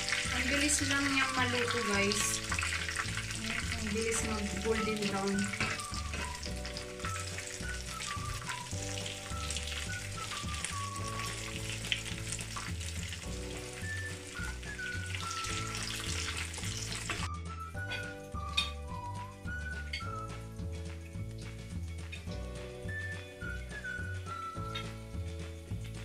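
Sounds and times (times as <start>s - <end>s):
background music: 0.0s - 26.0s
food deep-frying in oil: 0.0s - 26.0s.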